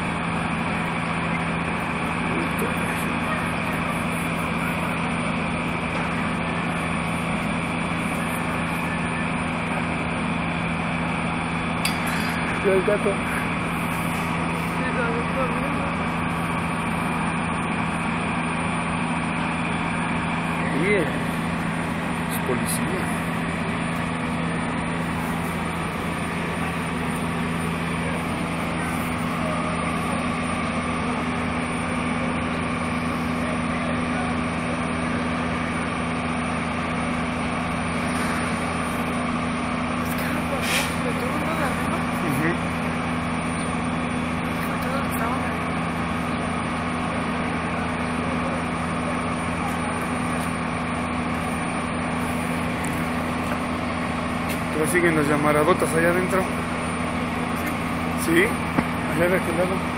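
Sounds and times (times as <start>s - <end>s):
heavy vehicle engine idling: 0.0s - 59.9s.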